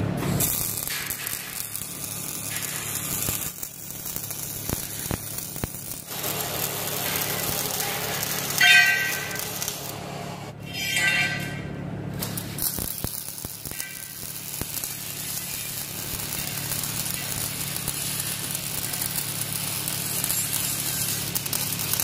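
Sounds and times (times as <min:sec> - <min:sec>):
sharp welding pops: 0:00.2 - 0:10.0, 0:12.1 - 0:22.0
welding arc crackling hiss: 0:00.2 - 0:10.6, 0:12.1 - 0:22.0.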